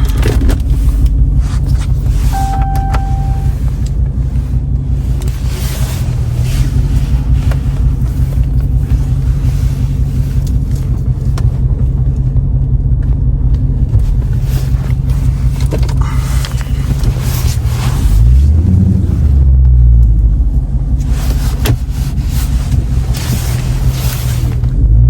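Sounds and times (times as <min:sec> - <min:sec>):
car engine exhaust rumble: 0:00.0 - 0:25.0.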